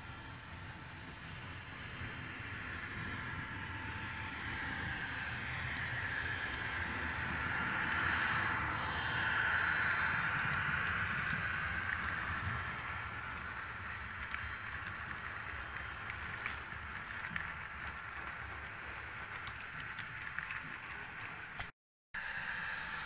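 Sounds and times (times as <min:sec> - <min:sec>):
wheels clicking over rail joints: 0:00.0 - 0:21.7
model train running hum: 0:00.0 - 0:23.0.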